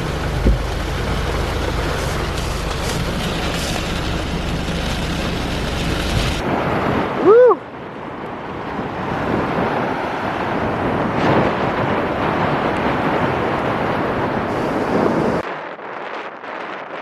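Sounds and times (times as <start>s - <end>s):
surf rushing: 0.0s - 15.4s
wind buffeting microphone: 0.0s - 17.0s.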